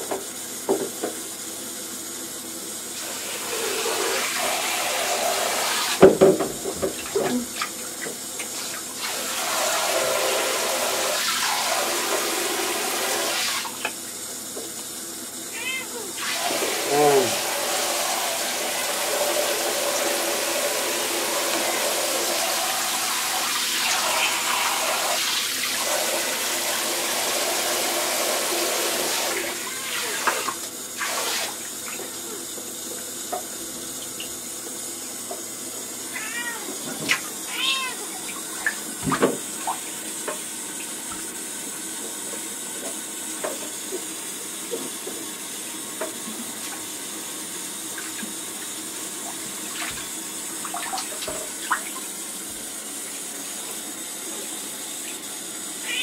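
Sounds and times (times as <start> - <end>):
shower water running into bathtub: 0.0 - 56.0.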